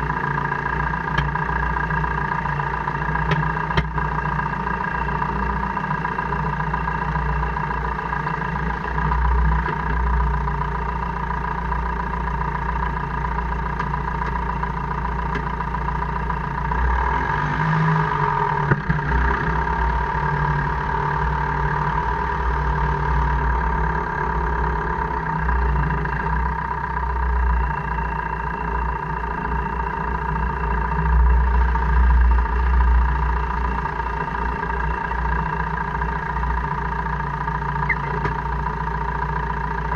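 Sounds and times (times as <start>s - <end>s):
constant whine: 0.0s - 39.9s
vehicle drivetrain drone: 0.0s - 39.9s.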